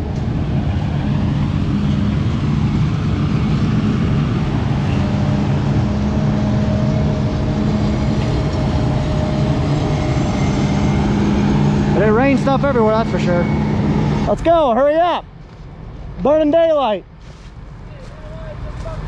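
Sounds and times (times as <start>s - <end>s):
harvester engine drone: 0.0s - 19.0s
steady whine: 0.0s - 19.0s.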